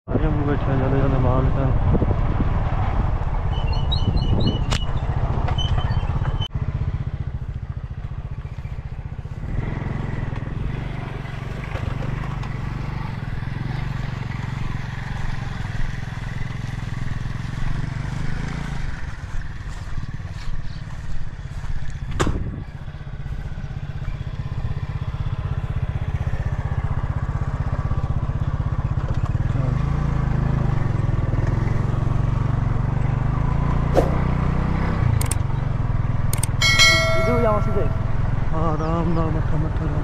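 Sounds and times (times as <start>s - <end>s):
small motorcycle engine running: 6.1s - 40.0s.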